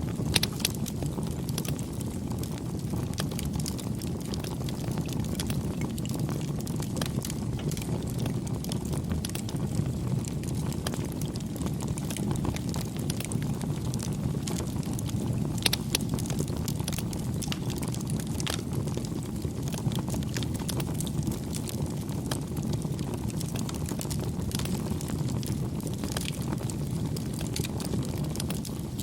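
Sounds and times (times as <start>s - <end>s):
fire crackles and pops: 0.0s - 29.0s
rush of flames: 0.0s - 29.0s.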